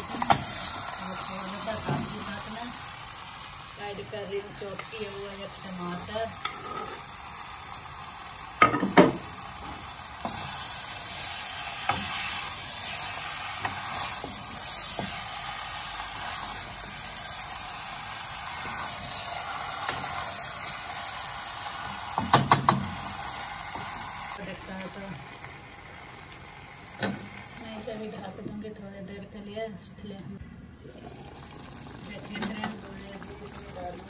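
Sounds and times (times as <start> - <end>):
curry sizzling in a pot: 0.0 - 28.6, 30.9 - 34.0.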